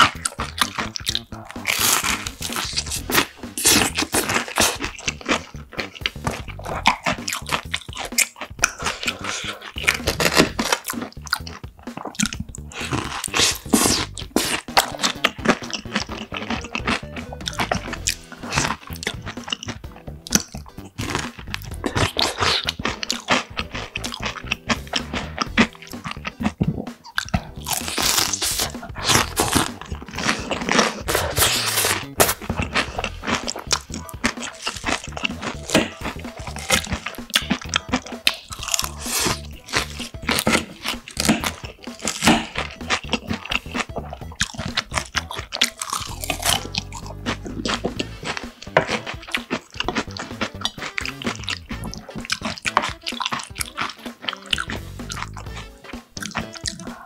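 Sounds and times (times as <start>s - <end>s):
crunching and chewing: 0.0s - 57.0s
soft music: 0.0s - 57.0s.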